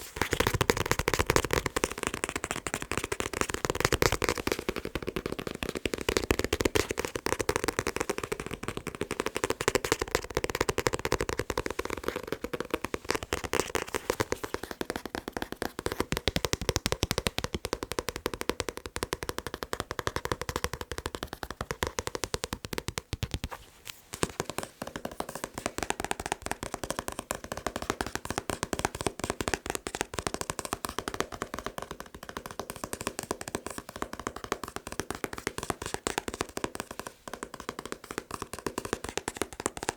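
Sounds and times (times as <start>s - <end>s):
fast tapping on a book: 0.0s - 39.9s.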